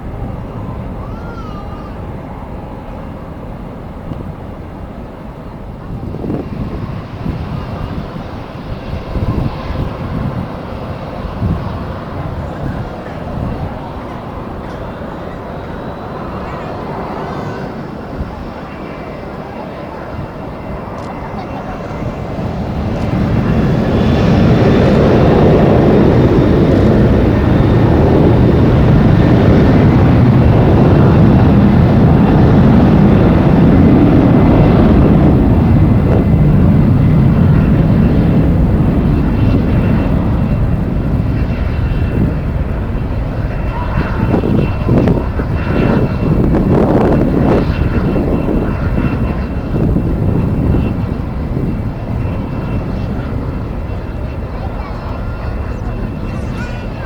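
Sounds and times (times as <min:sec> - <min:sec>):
jet engines roaring: 0:00.0 - 0:57.0
wind buffeting microphone: 0:00.0 - 0:57.0.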